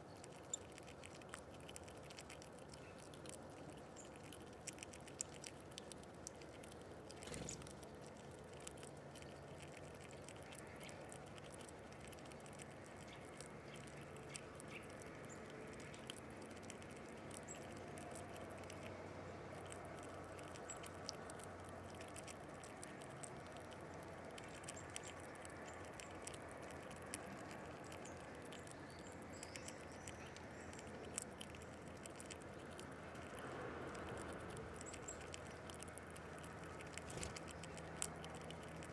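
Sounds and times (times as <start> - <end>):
animal feeding faint clicks: 0.0 - 38.9
low steady hum: 0.0 - 38.9.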